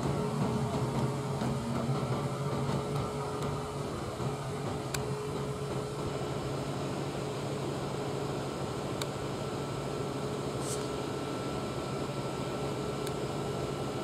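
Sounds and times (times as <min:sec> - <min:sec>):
locomotive engine humming: 0:00.0 - 0:14.0.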